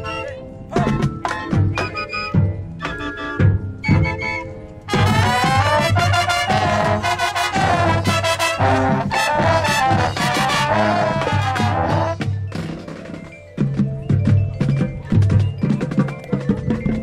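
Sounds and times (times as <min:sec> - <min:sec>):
marching band brass chords: 0:00.0 - 0:14.3.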